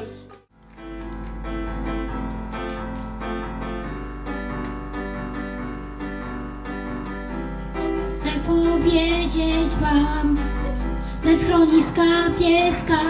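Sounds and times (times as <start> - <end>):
piano chords: 0.6 - 13.0.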